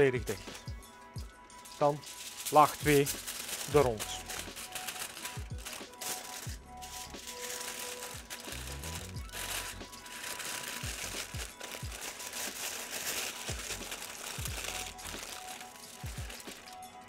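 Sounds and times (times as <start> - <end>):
background music with low beat: 0.0 - 17.0
aluminium foil crinkling: 1.5 - 17.0.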